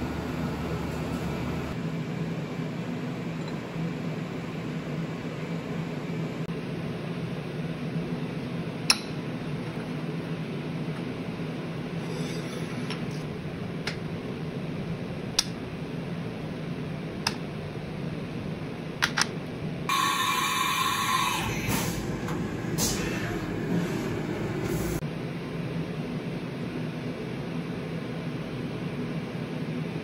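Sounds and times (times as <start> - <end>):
steady shop hum: 0.0 - 30.0.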